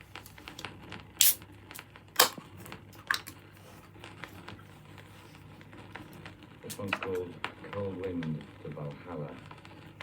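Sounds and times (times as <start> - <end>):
vinyl record crackle: 0.0 - 10.0
vinyl record pops: 0.0 - 10.0.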